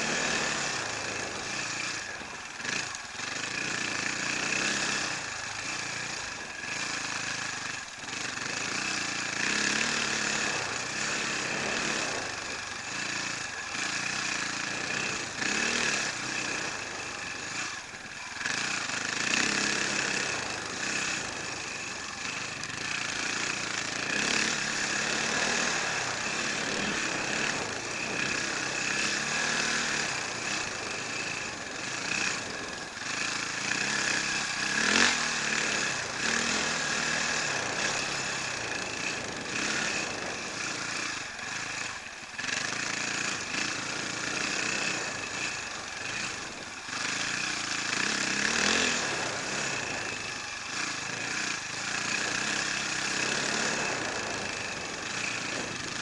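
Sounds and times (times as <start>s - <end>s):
motorcycle engine revving: 0.0s - 56.0s
steady high whine: 0.0s - 56.0s.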